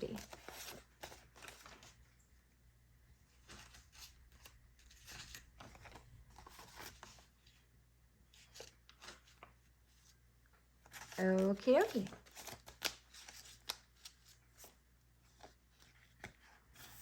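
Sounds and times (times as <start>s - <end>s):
paper banknotes rustling: 0.0s - 2.1s, 3.3s - 7.6s, 8.3s - 10.2s, 10.8s - 17.0s.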